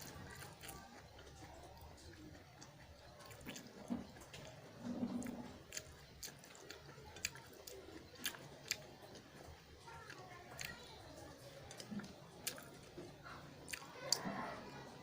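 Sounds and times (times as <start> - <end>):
person chewing noodles: 0.0 - 14.4.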